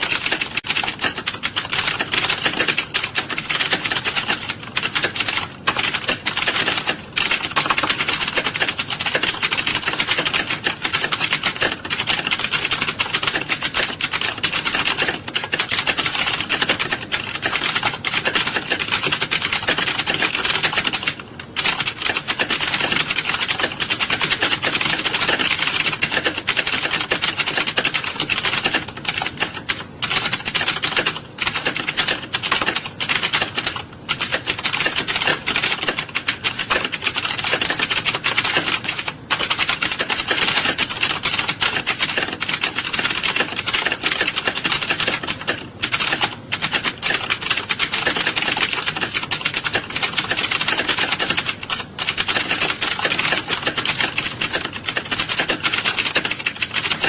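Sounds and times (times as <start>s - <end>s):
many people typing on keyboards: 0.0s - 57.0s.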